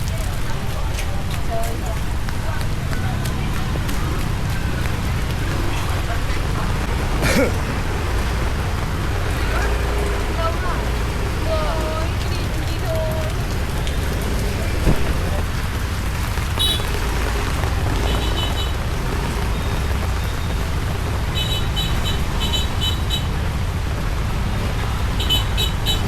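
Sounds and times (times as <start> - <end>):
motorbike traffic passing: 0.0 - 26.0
rain: 0.0 - 26.0.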